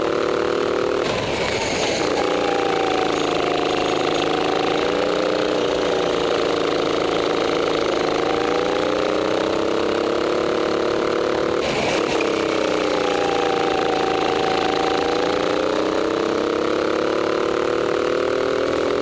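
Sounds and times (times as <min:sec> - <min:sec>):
go-kart engine revving: 0:00.0 - 0:19.0.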